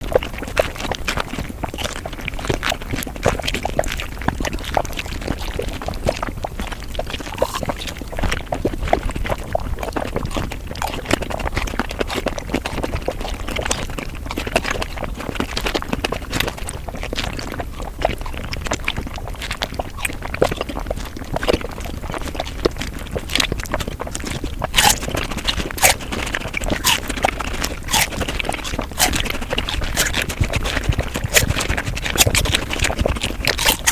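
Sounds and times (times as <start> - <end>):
sped-up chewing and mouth noises: 0.0 - 33.9.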